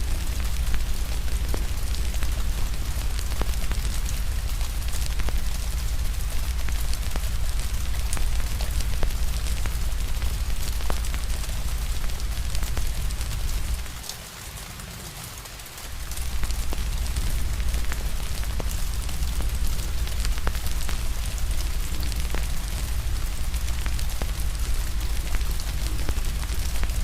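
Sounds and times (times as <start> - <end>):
rain hiss: 0.0 - 27.0
wood fire crackling: 0.0 - 27.0.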